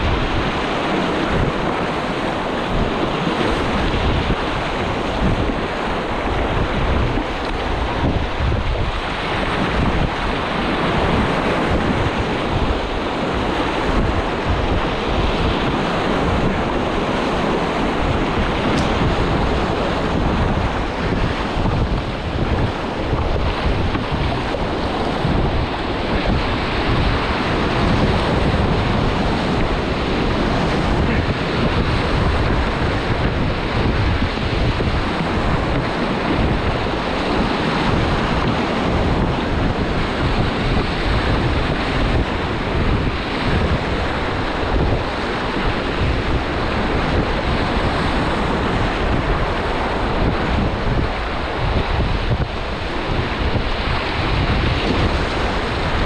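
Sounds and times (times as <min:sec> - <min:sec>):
whitewater rushing: 0:00.0 - 0:56.0
wind buffeting microphone: 0:00.0 - 0:56.0.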